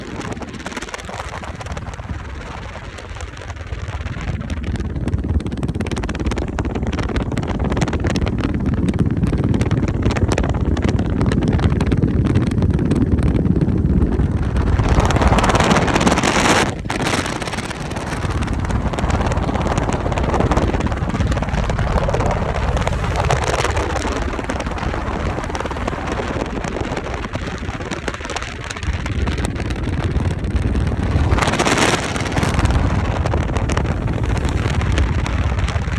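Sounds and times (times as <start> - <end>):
moving vehicle rumble: 0.0 - 35.9
wind over microphone: 0.0 - 35.9.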